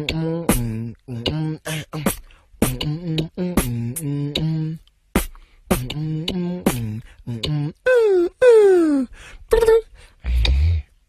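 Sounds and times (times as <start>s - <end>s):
man beatboxing: 0.0s - 8.8s, 9.5s - 10.9s.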